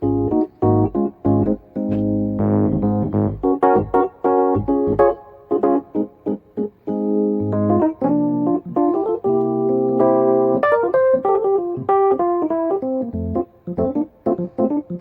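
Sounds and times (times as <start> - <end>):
keyboard music: 0.0 - 15.0.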